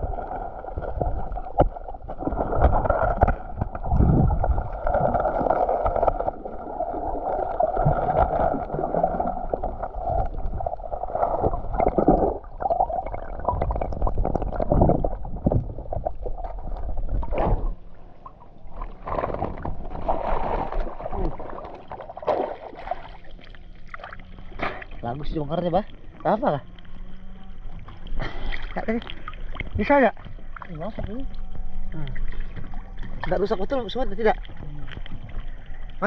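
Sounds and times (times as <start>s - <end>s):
muffled underwater rumble: 0.0s - 36.0s.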